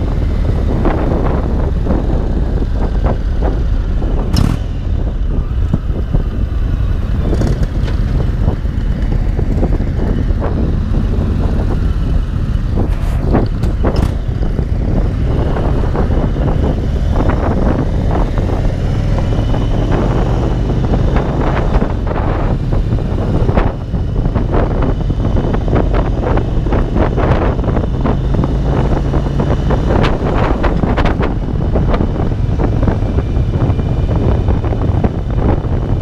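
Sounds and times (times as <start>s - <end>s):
motorcycle engine running: 0.0s - 36.0s
wind on microphone: 0.0s - 36.0s.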